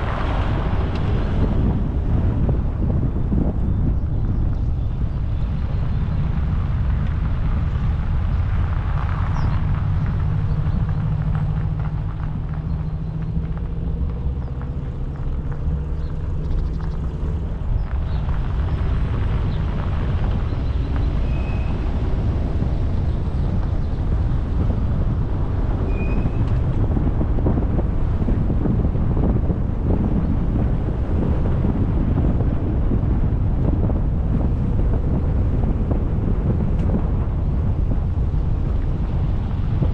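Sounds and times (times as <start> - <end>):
street traffic: 0.0 - 39.9
wind rumbling on microphone: 0.0 - 39.9.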